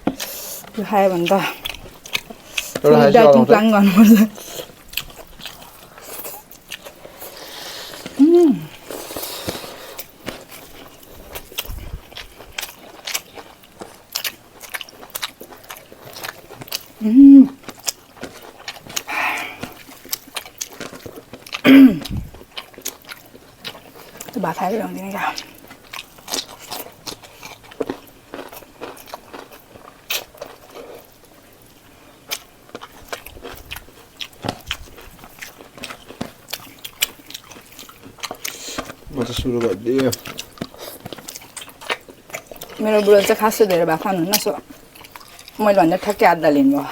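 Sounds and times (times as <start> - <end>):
chewing and biting: 0.0 - 3.6, 4.3 - 46.2.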